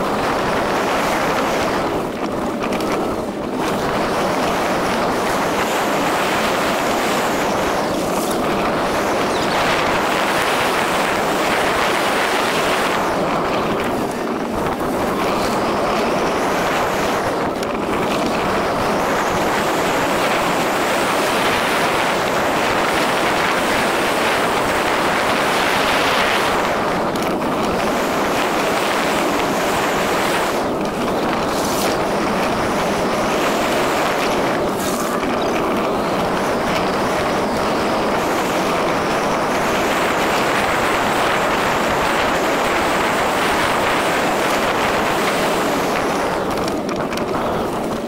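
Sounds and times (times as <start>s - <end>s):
rushing noise of moving vehicle: 0.0s - 48.0s.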